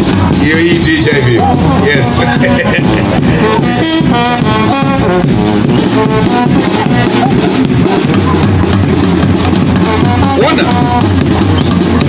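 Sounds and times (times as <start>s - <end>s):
brass horns playing melody: 0.0s - 12.0s.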